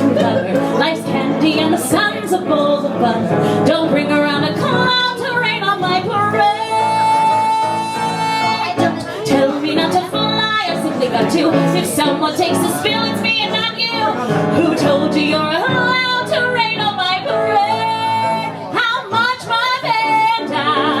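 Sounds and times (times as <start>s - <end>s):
instrumental accompaniment: 0.0s - 21.0s
woman belting a show tune: 0.0s - 21.0s.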